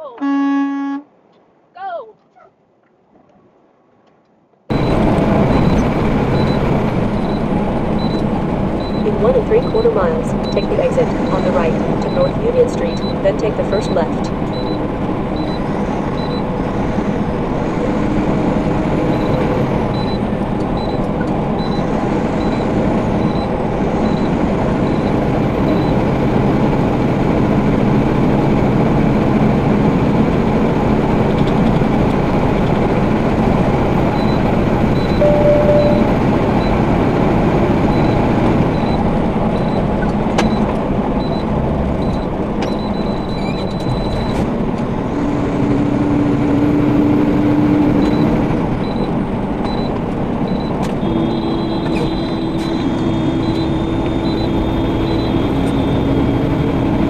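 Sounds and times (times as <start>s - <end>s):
truck engine and road noise: 4.6s - 57.0s.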